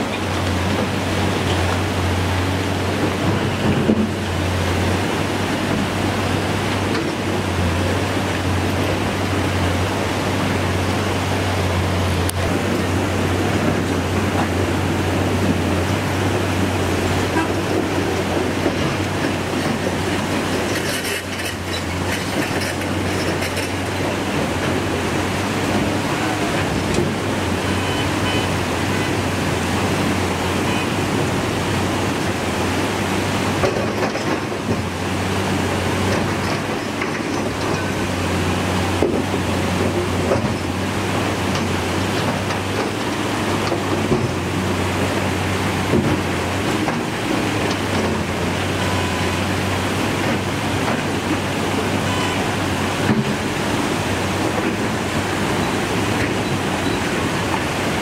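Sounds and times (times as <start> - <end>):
floodwater rushing over rocks: 0.0 - 58.0
low engine drone: 0.0 - 58.0.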